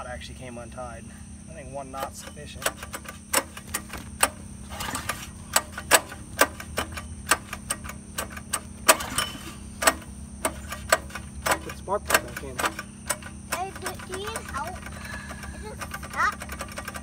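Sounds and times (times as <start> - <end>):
faint steady hum: 0.0 - 17.0
sharp irregular clicks: 1.9 - 17.0.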